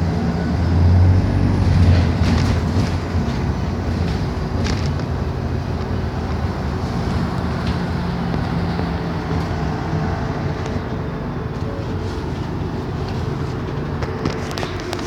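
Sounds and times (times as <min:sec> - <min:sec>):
bus engine hum: 0:00.0 - 0:15.0
road and cabin rumble: 0:00.0 - 0:15.0.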